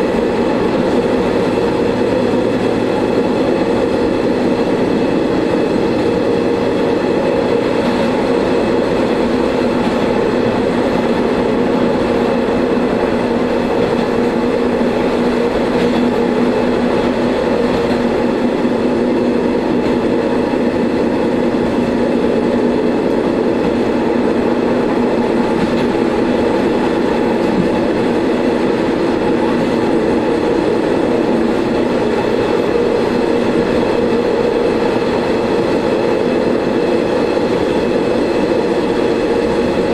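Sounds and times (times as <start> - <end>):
railcar engine hum: 0.0 - 39.9
wheel and rail noise: 0.0 - 39.9.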